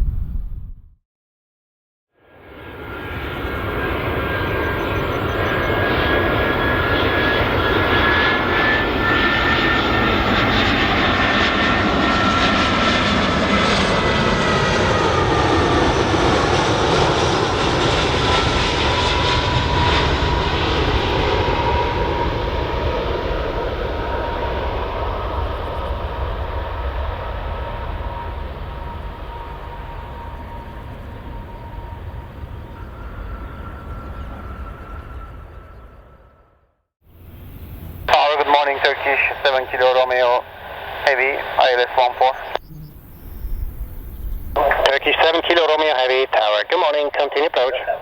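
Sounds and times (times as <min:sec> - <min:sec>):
high jet engine whine: 0:02.2 - 0:48.0
jet airliner passing by: 0:02.2 - 0:48.0.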